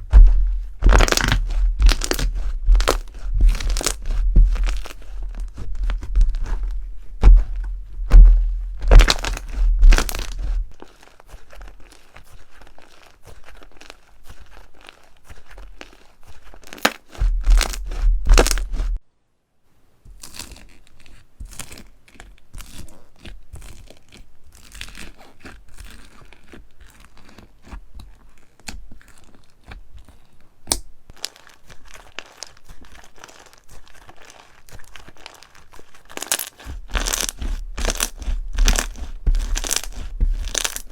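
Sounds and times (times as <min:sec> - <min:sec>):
slime crackling and popping: 0:00.0 - 0:19.0, 0:20.2 - 0:40.9.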